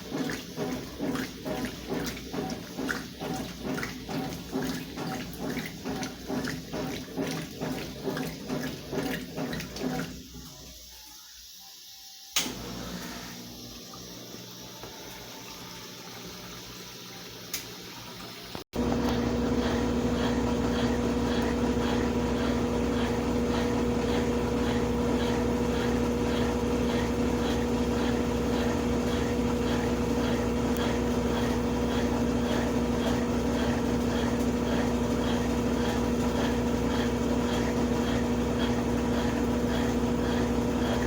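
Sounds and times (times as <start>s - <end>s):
washing machine motor hum: 0.0s - 11.1s, 12.3s - 41.0s.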